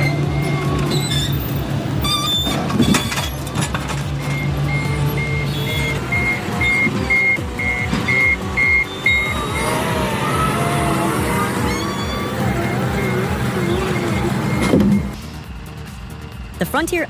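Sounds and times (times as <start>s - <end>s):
reversing alarm beeping: 0.0s - 16.8s
background music: 0.0s - 17.0s
diesel engine running: 0.0s - 17.0s.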